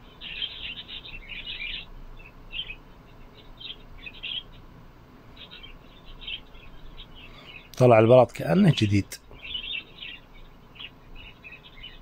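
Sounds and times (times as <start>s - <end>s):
faint background hum: 0.0s - 12.0s
small birds chirping: 0.0s - 12.0s.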